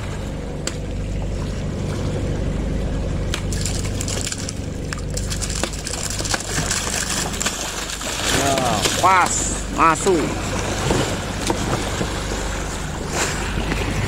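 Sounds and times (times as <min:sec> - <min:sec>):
low engine hum: 0:00.0 - 0:14.0
water splashing and sloshing: 0:00.0 - 0:14.0.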